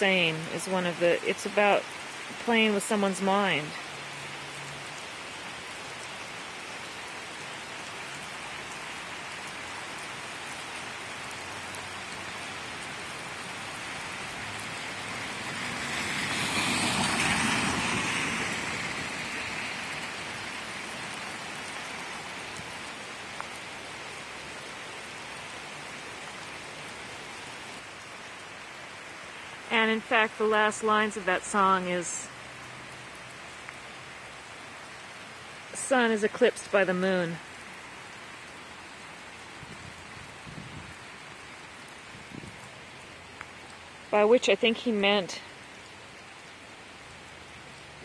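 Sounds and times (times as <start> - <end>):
heavy rain on pavement: 0.0 - 48.0.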